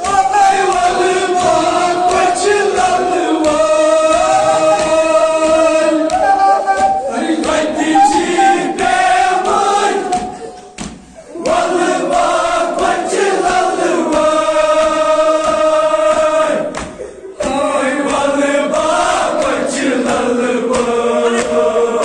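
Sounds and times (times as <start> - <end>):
group chanting a lament: 0.0 - 22.0.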